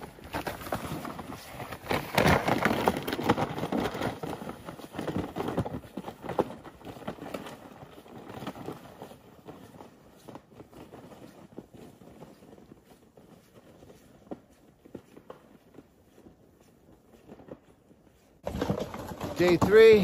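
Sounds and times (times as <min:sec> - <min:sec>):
footsteps crunching on snow: 0:00.0 - 0:18.4
sled scraping on snow: 0:00.0 - 0:20.0.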